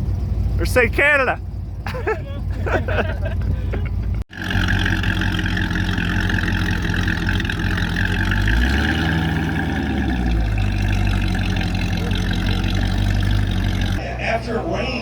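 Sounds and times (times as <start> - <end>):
car engine running: 0.0 - 15.0
road and wind noise: 0.0 - 15.0.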